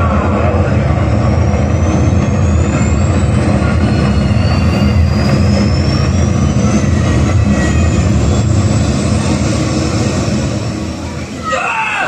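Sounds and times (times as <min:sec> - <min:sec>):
jet-like launch roar: 0:00.0 - 0:12.0
thin rising whine: 0:00.0 - 0:12.0.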